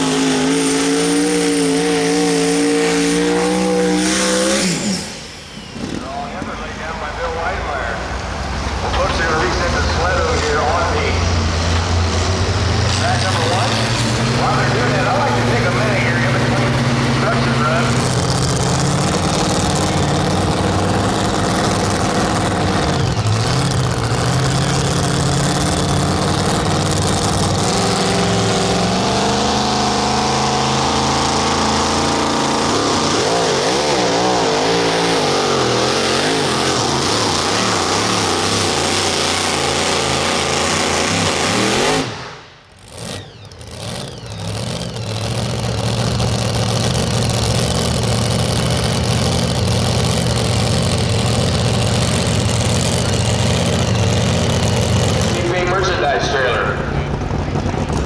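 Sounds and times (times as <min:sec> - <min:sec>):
truck engine at high revs: 0:00.0 - 0:58.0.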